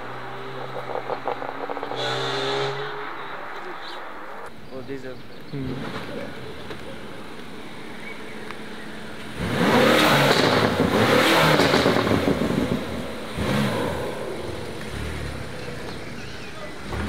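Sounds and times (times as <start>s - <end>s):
car engine accelerating hard: 0.0s - 4.5s, 5.4s - 17.0s.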